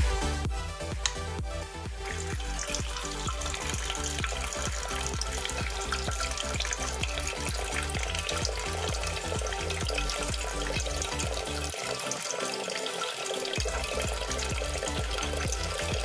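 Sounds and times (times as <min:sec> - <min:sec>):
electronic music with beat: 0:00.0 - 0:16.0
fountain water trickling: 0:02.0 - 0:16.0.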